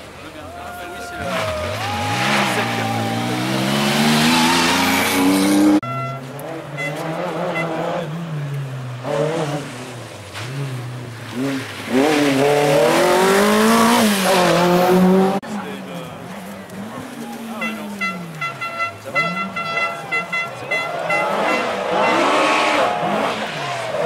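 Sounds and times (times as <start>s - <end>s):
car approaching: 0.0s - 24.0s
rally car engine revving: 1.2s - 24.0s.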